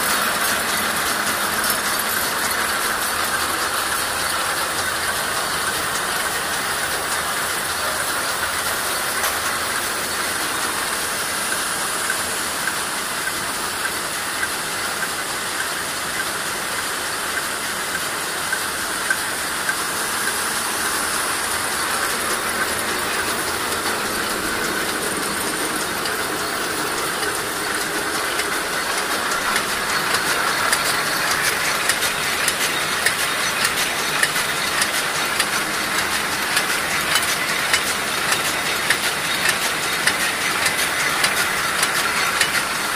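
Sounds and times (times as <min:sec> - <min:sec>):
machine gears clattering: 0:00.0 - 0:42.9.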